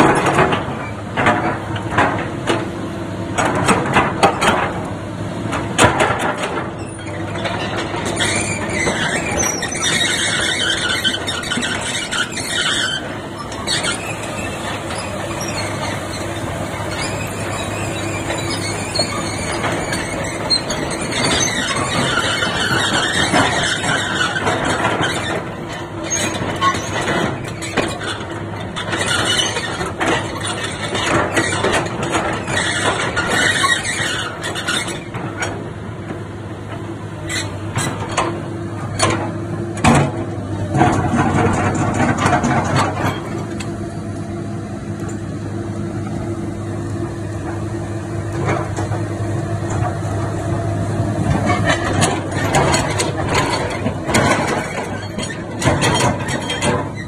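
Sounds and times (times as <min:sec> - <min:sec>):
steel tracks squealing and clanking: 0:00.0 - 0:02.7, 0:05.5 - 0:44.2, 0:46.8 - 0:57.0
diesel engine running: 0:00.0 - 0:57.0.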